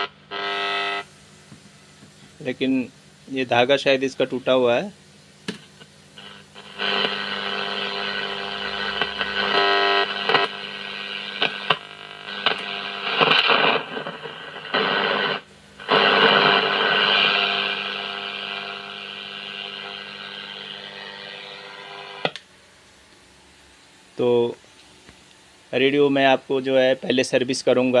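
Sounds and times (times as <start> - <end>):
radio static and hiss: 0.0 - 22.4.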